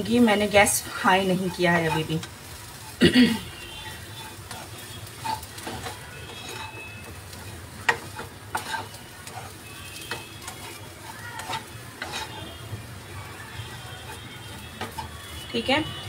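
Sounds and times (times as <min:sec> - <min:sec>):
faint sizzle: 0:00.0 - 0:16.0
spatula scraping frying pan: 0:00.0 - 0:16.0.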